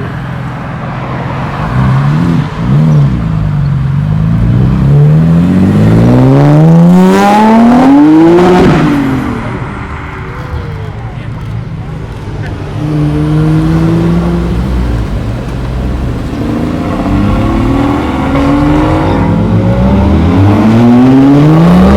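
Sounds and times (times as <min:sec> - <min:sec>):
car engine revving and accelerating: 0:01.0 - 0:10.0, 0:12.5 - 0:21.9.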